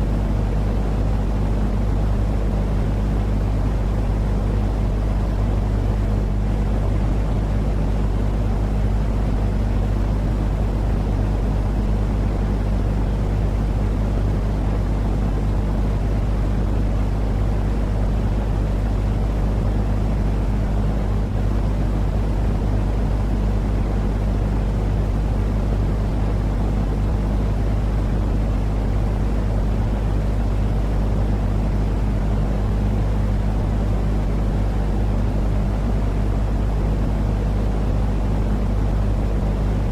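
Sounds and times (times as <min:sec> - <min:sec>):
constant low hum: 0:00.0 - 0:39.9
low rumbling white noise: 0:00.0 - 0:39.9.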